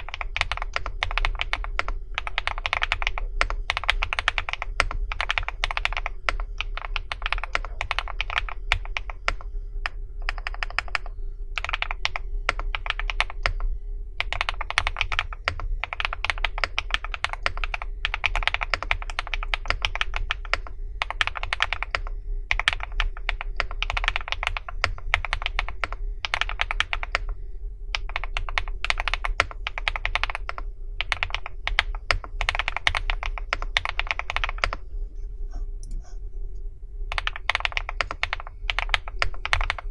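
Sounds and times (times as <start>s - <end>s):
mechanical keyboard typing: 0.0s - 34.8s, 37.1s - 39.9s.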